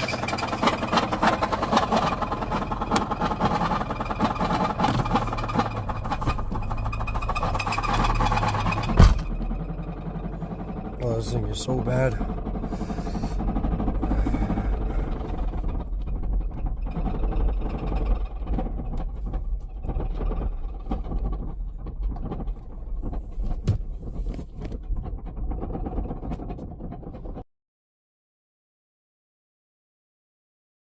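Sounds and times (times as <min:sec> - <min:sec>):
car engine knocking loudly: 0:00.0 - 0:27.4.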